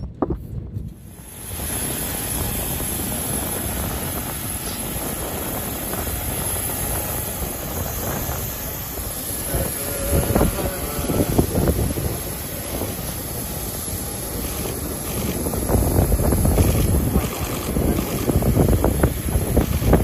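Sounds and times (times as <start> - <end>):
jet aircraft noise: 0.0 - 20.0.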